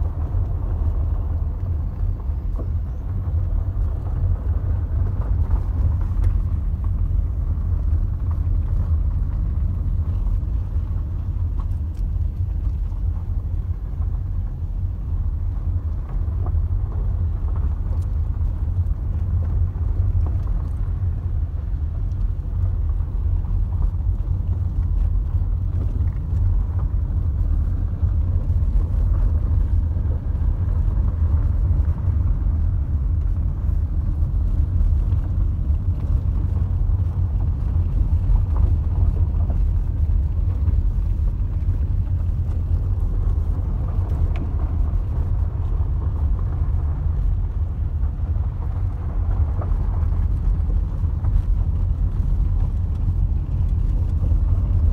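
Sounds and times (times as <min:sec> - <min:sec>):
car driving on gravel road: 0:00.0 - 0:54.9.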